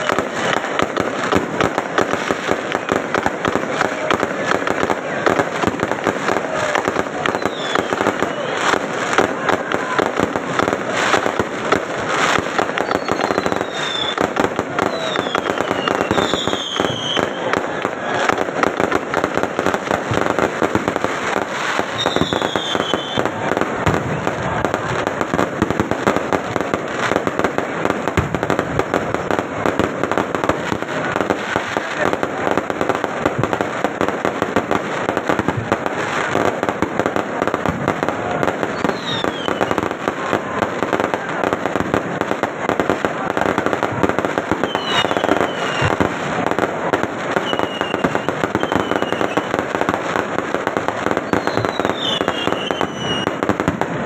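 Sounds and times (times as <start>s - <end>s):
fireworks bangs and crackling: 0.0s - 54.0s
fireworks falling whistles: 0.0s - 54.0s.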